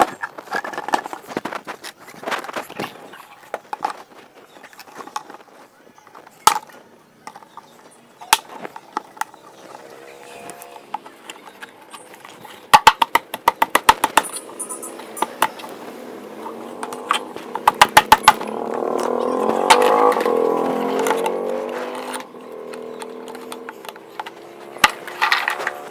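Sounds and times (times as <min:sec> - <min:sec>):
plastic parts knocking and clacking: 0:00.0 - 0:15.8, 0:16.4 - 0:25.9.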